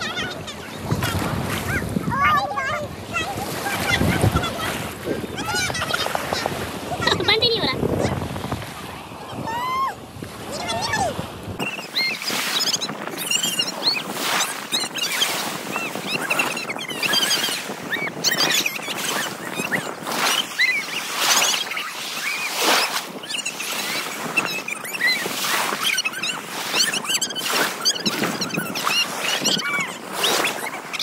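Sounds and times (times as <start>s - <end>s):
sea water splashing in surf: 0.0s - 31.0s.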